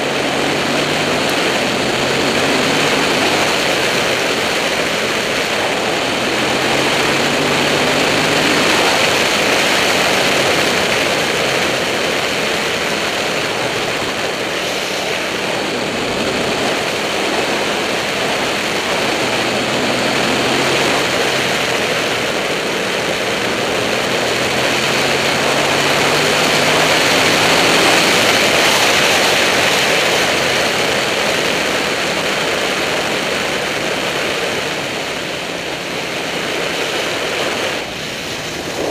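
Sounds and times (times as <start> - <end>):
faint motorcycle engine: 0.0 - 38.9
wind rushing over camera: 0.0 - 38.9.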